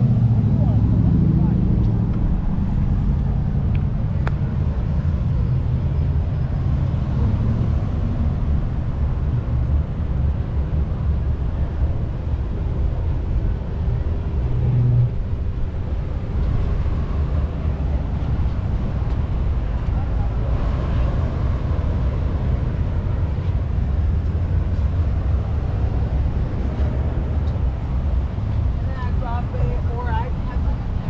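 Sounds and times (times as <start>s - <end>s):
passing traffic rumble: 0.0s - 31.0s.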